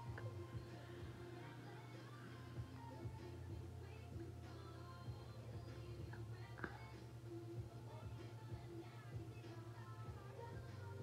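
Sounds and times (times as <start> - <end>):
faint song from smart speaker: 0.0 - 11.0.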